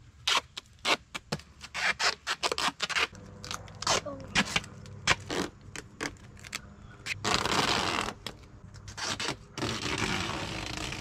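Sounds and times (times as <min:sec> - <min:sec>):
duct tape ripping off roll: 0:00.2 - 0:11.0
tape crackling: 0:00.2 - 0:11.0.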